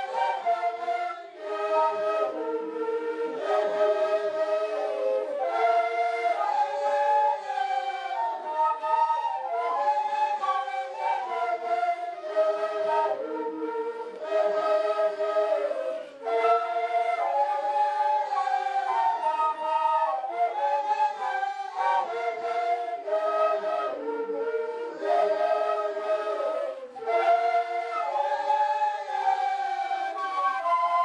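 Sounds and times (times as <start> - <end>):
end-blown flutes playing a tune: 0.0 - 31.0.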